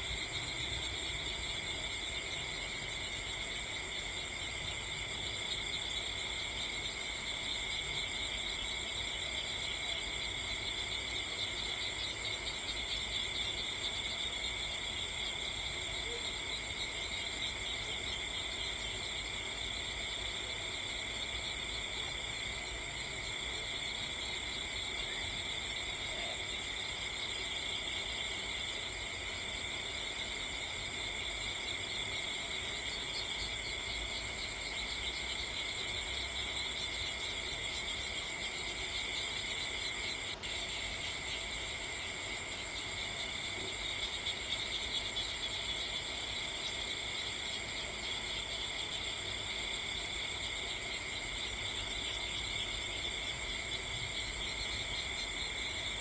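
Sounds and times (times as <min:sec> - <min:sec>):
crickets and insects chirping: 0:00.0 - 0:56.0.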